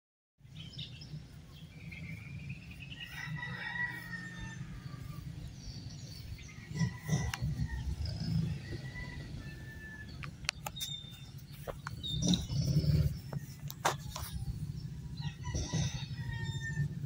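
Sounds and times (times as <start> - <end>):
birds chirping and singing: 0.4 - 17.0
low outdoor rumble: 0.4 - 17.0.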